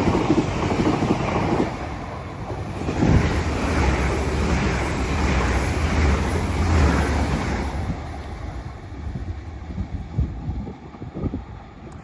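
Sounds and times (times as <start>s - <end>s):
rail noise: 0.0s - 12.0s
train rumbling past: 0.0s - 12.0s.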